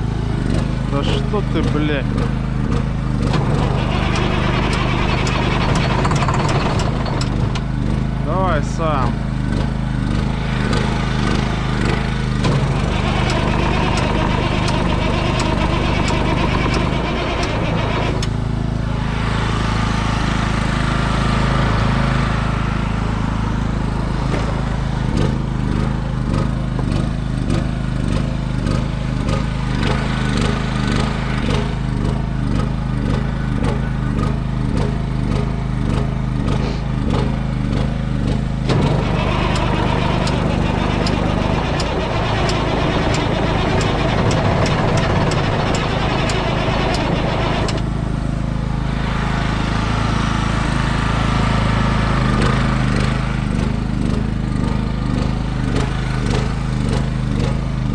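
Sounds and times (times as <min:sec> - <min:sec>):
engine running steadily: 0:00.0 - 0:57.9.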